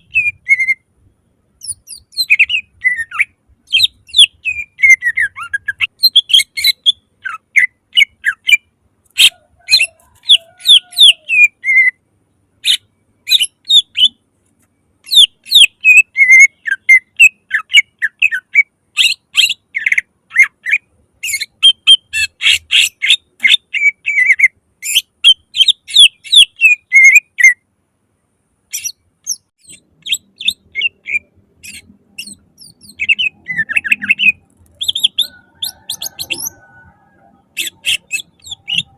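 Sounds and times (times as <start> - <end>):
bird singing whistled notes: 0.0 - 0.8, 1.6 - 12.0, 12.6 - 14.2, 15.0 - 27.6, 28.7 - 38.9.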